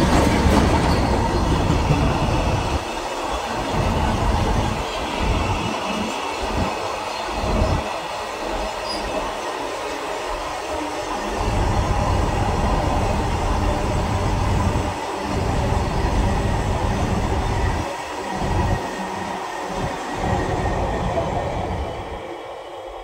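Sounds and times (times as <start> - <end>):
freight train wheels rumbling and rattling: 0.0 - 22.4.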